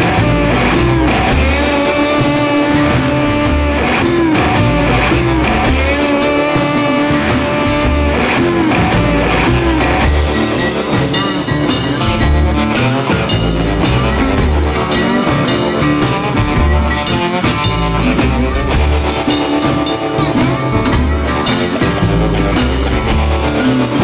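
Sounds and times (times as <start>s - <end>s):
guitar-led rock music: 0.0s - 24.0s.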